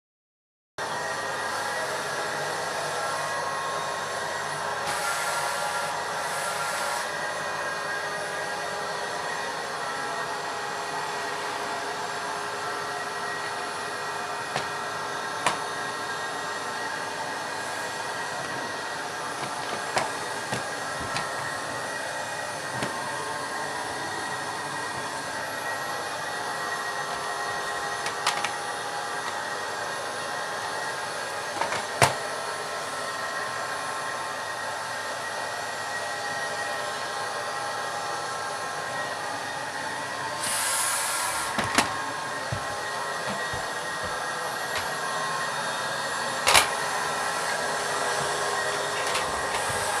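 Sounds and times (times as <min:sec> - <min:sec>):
vacuum cleaner motor whine: 0:00.8 - 0:50.0.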